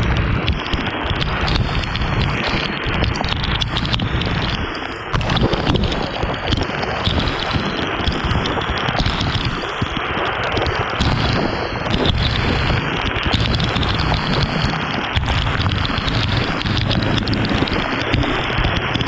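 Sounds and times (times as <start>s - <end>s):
rain: 0.0s - 19.0s
small crackles: 0.0s - 19.0s
wet road rush: 0.0s - 19.0s
wind buffeting microphone: 0.0s - 19.0s.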